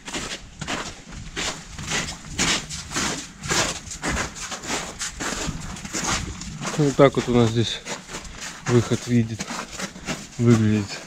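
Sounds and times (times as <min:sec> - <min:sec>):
footsteps crunching on snow: 0:00.0 - 0:11.0.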